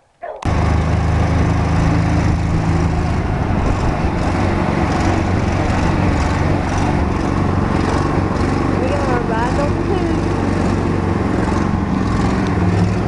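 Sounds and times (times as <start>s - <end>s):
atv engine drone: 0.2s - 13.0s.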